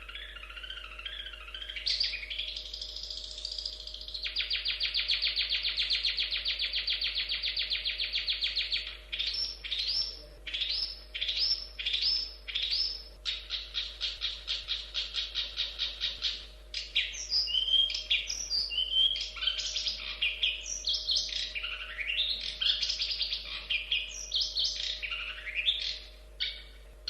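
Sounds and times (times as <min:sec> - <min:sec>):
bird rattling song: 0:00.0 - 0:26.8
bird sharply rising calls: 0:00.0 - 0:26.9.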